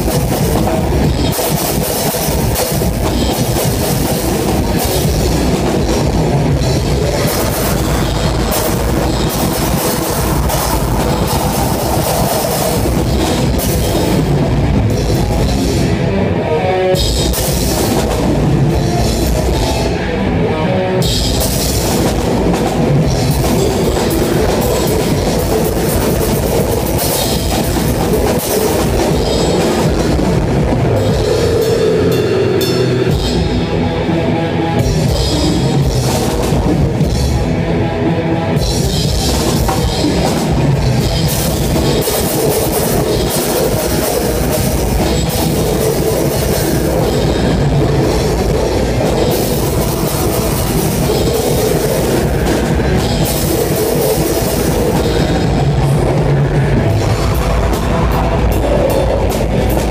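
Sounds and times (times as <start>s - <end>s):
drums and cymbals: 0.0s - 16.2s, 16.9s - 20.1s, 21.0s - 37.6s, 38.5s - 59.9s
rock band playing live: 0.0s - 59.9s.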